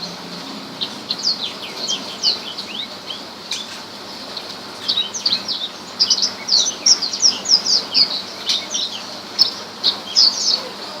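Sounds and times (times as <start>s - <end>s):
bird singing high chirps: 0.8s - 3.8s, 4.4s - 11.0s.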